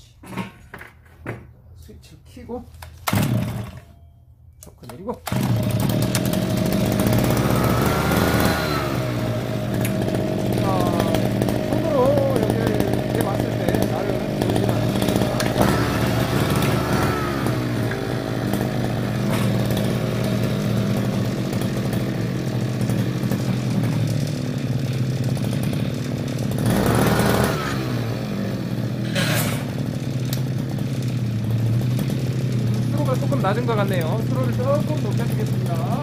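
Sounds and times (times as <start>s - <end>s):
small petrol engine idling: 3.0s - 3.8s, 5.2s - 36.0s.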